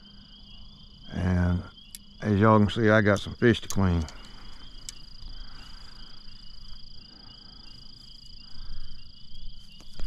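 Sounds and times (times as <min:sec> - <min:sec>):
high insect trill: 0:00.0 - 0:10.0
lower pulsing insect trill: 0:00.0 - 0:10.0.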